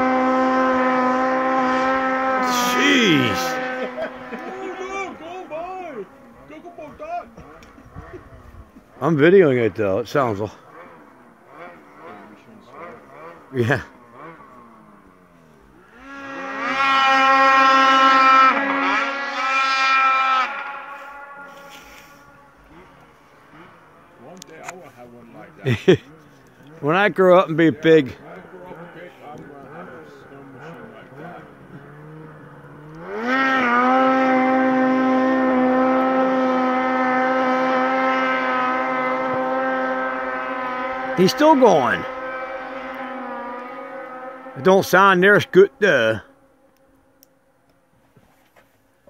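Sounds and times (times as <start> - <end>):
snowmobile engine revving: 0.0 - 47.3.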